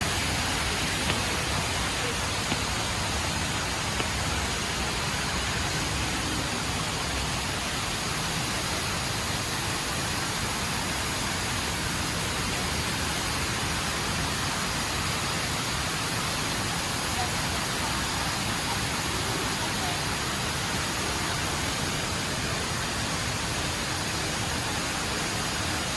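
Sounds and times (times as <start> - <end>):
indoor waterfall rushing: 0.0 - 25.9.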